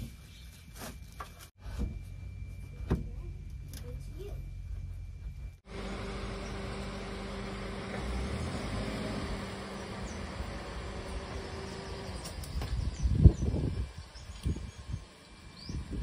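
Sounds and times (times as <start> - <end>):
outdoor background noise: 0.0 - 16.0
truck engine running: 1.7 - 16.0.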